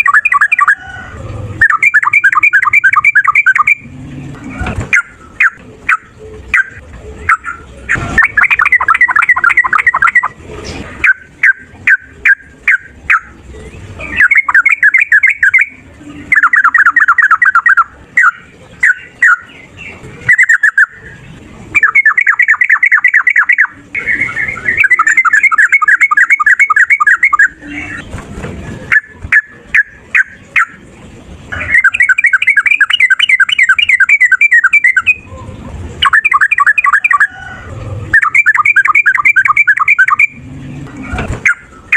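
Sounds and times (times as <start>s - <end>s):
bird singing rolling chatter: 0.0s - 41.9s.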